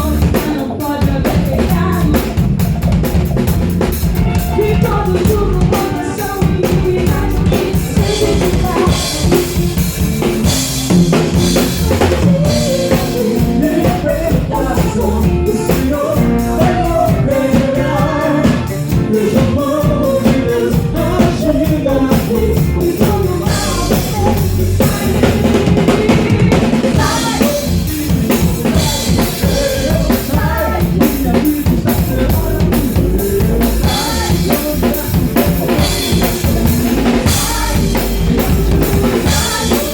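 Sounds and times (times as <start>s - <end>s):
bass: 0.0s - 39.9s
drum kit beat: 0.0s - 39.9s
person singing melody: 4.2s - 39.9s.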